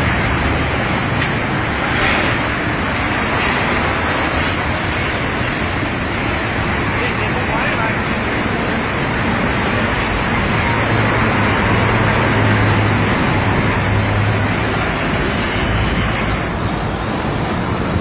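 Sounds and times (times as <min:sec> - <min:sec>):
pressure washer motor humming: 0:00.0 - 0:18.0.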